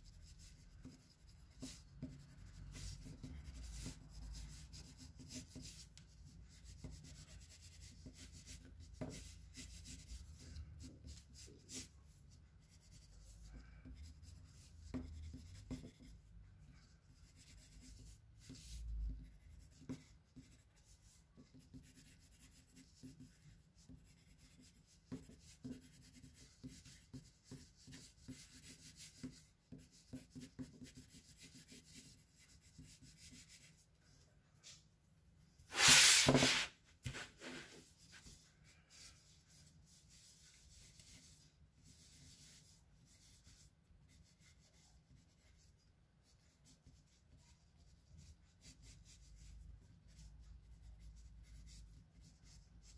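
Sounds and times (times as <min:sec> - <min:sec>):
pencil scratching on paper: 0:00.0 - 0:33.8, 0:35.7 - 0:52.9.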